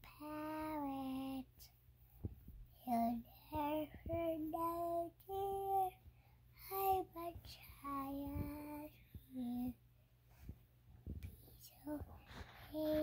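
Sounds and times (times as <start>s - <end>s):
child singing softly: 0.0s - 1.8s, 2.6s - 9.9s, 11.2s - 13.0s.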